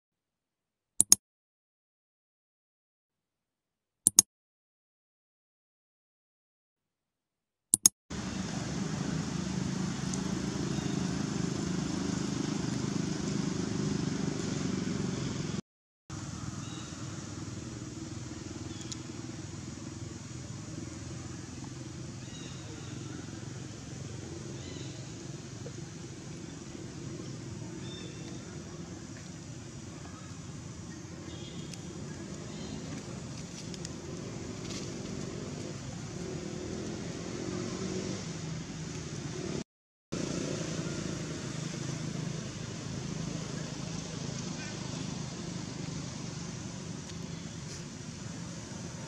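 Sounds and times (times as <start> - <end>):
low outdoor rumble: 8.1 - 39.6, 40.2 - 49.0.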